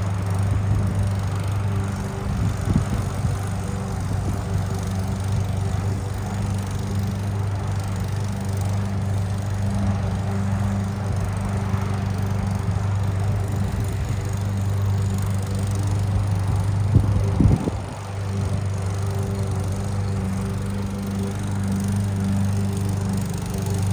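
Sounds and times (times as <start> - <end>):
lawn mower running: 0.0 - 23.9.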